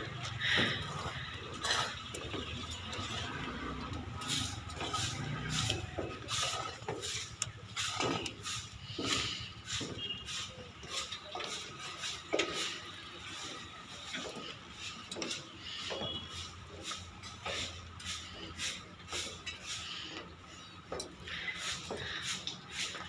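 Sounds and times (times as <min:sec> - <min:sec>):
footsteps on steel stair treads: 0:00.0 - 0:23.0.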